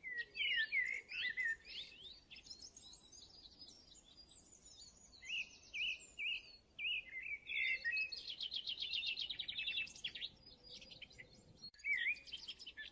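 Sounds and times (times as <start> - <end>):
songbird singing: 0.0 - 12.9.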